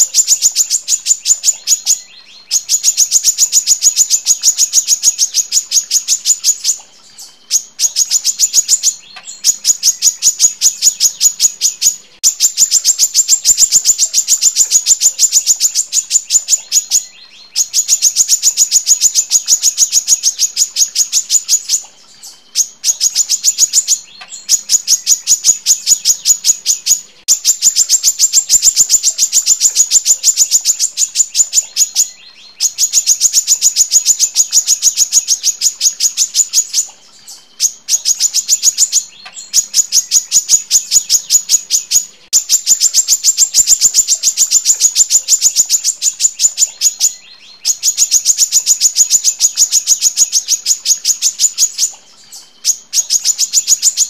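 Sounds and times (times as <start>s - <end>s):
bird high rapid chirping: 0.0s - 54.0s.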